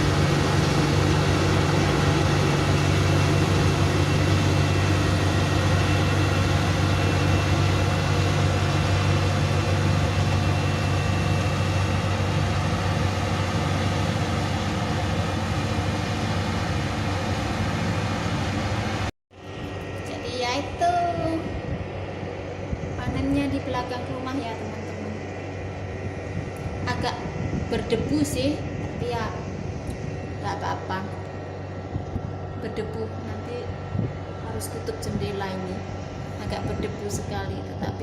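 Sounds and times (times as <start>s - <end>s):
combine harvester engine droning: 0.0s - 38.0s.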